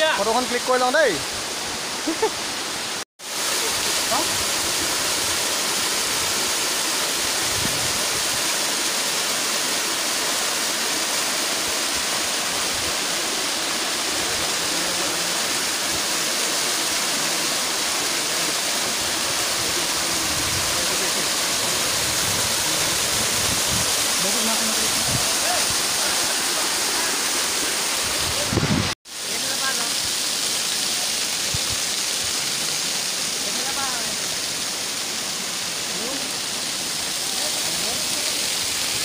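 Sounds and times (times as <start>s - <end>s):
small waterfall splashing: 0.0s - 39.0s.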